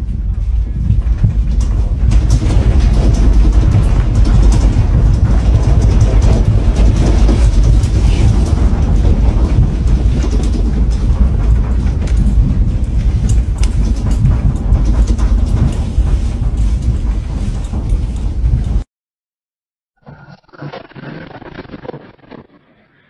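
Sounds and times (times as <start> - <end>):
deep earthquake rumble: 0.0 - 18.9
clicks and rattles: 0.3 - 18.8.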